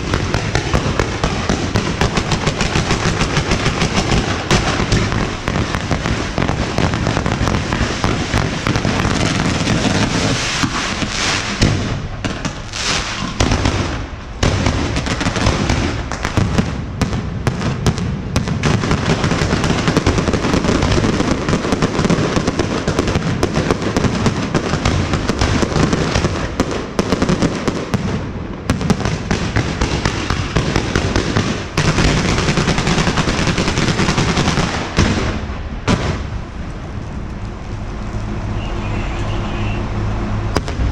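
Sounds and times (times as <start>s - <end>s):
fireworks and firecrackers banging: 0.0s - 40.9s.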